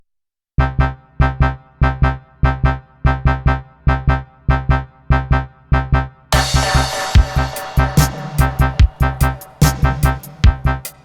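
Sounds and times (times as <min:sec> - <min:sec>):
chords over bass note: 0:00.6 - 0:11.0.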